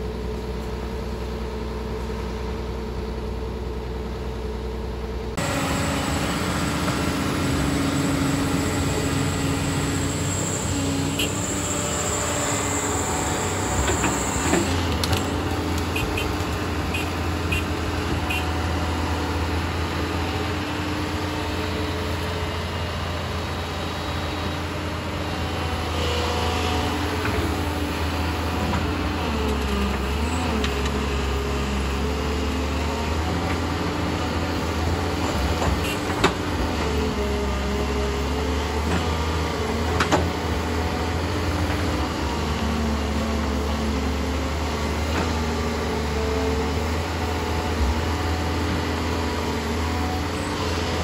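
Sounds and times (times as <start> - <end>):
diesel engine running under load: 0.0 - 51.0.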